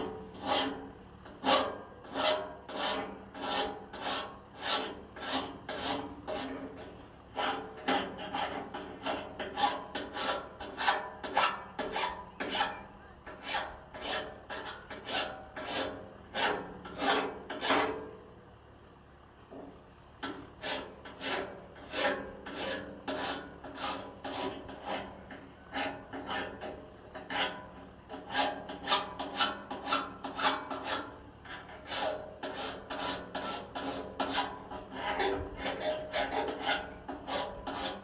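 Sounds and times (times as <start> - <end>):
metal file rasping on blade: 0.0 - 18.1, 20.2 - 38.0.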